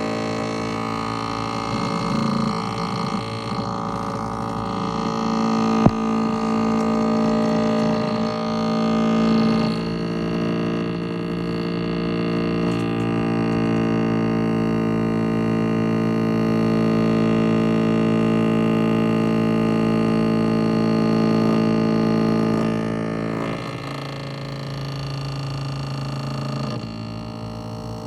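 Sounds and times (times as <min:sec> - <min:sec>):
refrigerator buzzing drone: 0:00.0 - 0:28.0.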